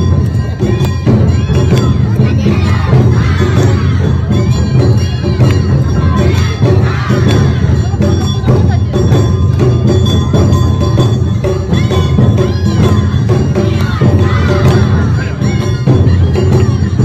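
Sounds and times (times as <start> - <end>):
crowd voices: 0.0 - 17.0
festival band playing: 0.0 - 17.0
heavy drumming: 0.0 - 17.0.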